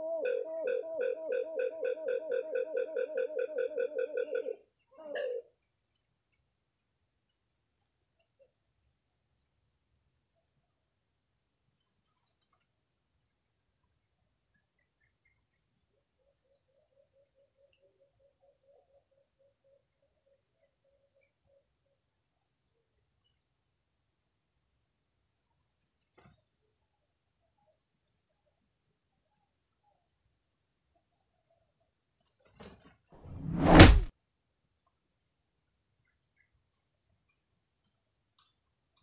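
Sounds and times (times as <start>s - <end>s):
high-pitched insect trill: 0.0s - 32.4s.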